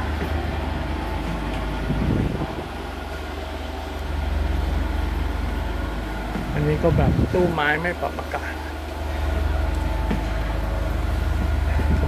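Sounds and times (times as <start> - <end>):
diesel train engine idling: 0.0 - 12.0.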